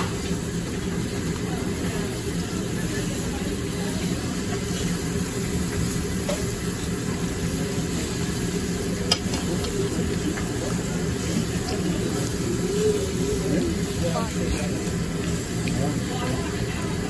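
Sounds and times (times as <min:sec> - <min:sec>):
table grill hissing: 0:00.0 - 0:17.0.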